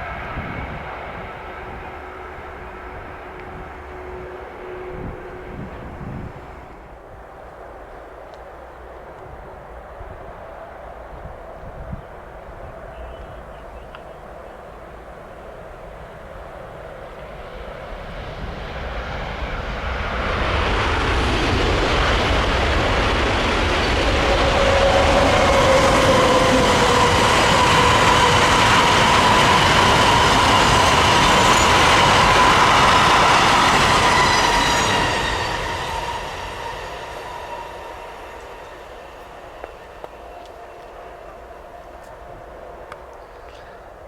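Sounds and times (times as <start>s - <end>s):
train passing: 0.0s - 44.0s.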